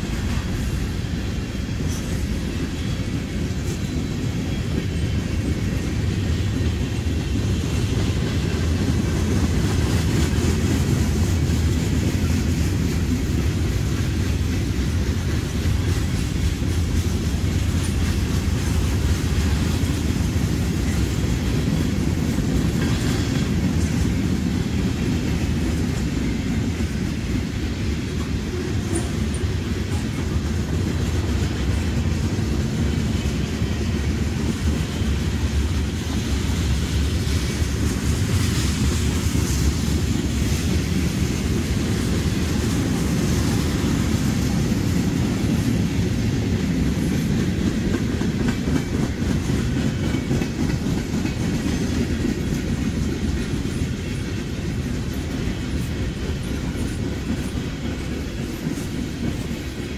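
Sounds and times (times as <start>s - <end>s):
freight train wheels rumbling on track: 0.0s - 59.9s.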